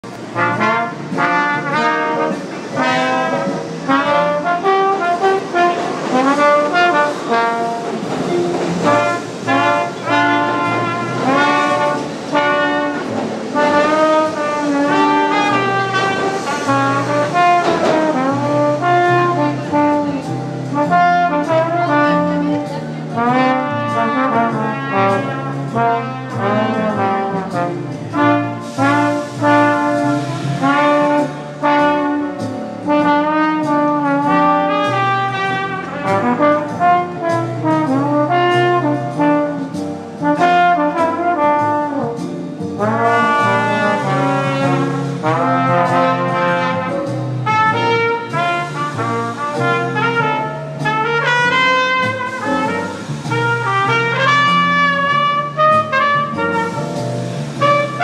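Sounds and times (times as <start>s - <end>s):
trombone playing: 0.0s - 58.0s
trumpet playing: 0.0s - 58.0s.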